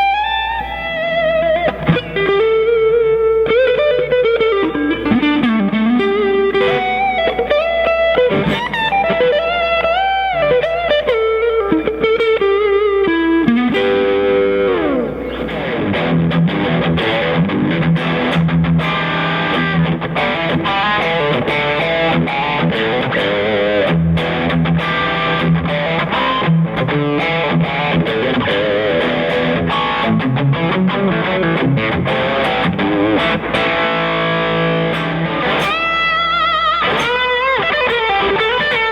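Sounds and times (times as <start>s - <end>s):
electric guitar through amplifier: 0.0s - 38.9s.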